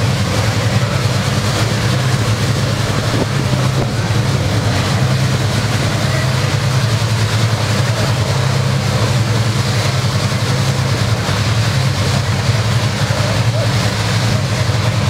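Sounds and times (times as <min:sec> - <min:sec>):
drag racing engine idling loudly: 0:00.0 - 0:15.0.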